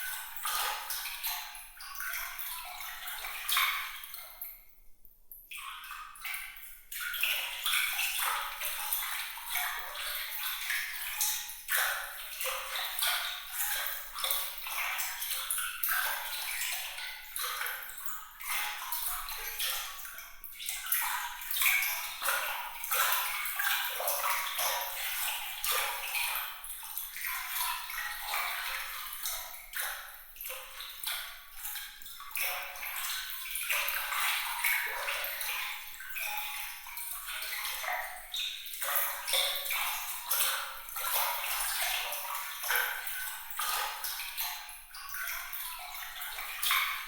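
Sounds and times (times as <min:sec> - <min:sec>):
water trickling and splashing: 0:00.0 - 0:04.7, 0:05.5 - 0:47.0.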